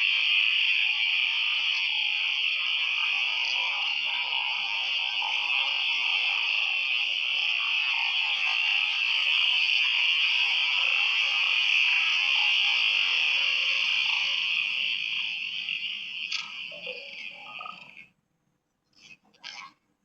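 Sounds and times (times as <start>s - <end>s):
frogs chorus: 0.0s - 18.1s, 18.9s - 19.8s.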